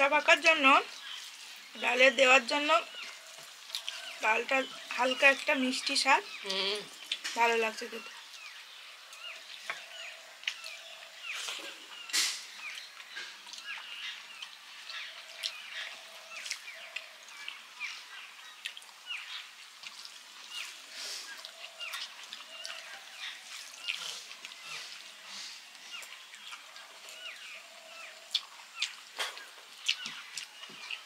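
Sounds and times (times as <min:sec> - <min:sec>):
birds chirping: 0:00.0 - 0:31.0
chewing: 0:03.0 - 0:05.5, 0:06.3 - 0:07.4, 0:09.1 - 0:31.0.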